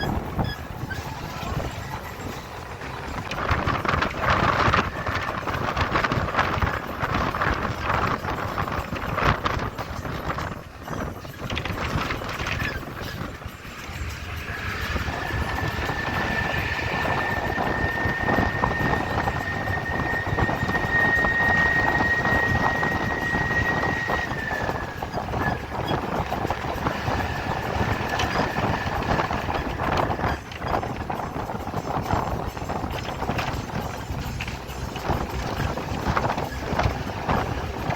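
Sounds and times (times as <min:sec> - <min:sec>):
thin high squeal: 0:00.0 - 0:37.9
train rumbling and clacking: 0:00.0 - 0:37.9.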